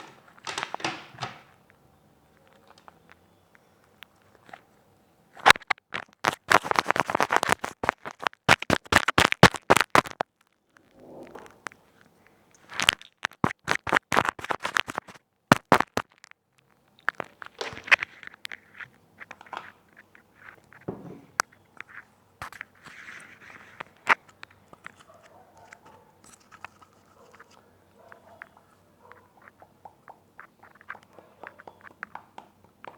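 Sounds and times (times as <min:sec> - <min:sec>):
crackling against microphone: 0:00.0 - 0:32.9.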